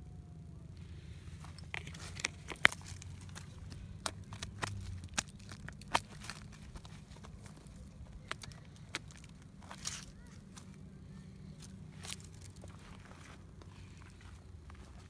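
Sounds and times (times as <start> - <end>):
low steady rumble: 0.0 - 15.0
sharp clicks and crunches: 1.2 - 10.8, 11.5 - 15.0.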